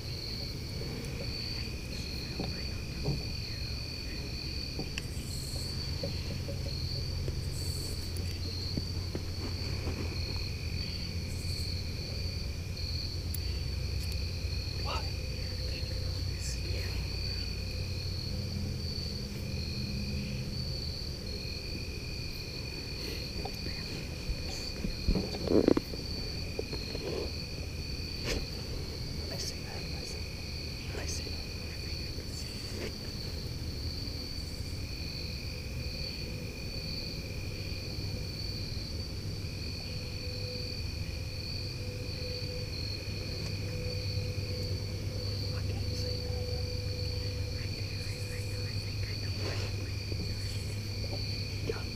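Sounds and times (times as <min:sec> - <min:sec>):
high insect trill: 0:00.0 - 0:51.9
lower insect trill: 0:00.0 - 0:51.9.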